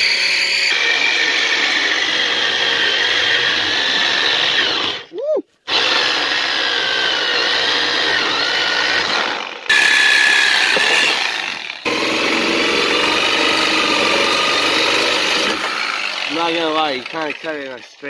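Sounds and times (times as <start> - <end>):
reciprocating saw cutting metal pipe: 0.0 - 5.1, 5.7 - 18.0.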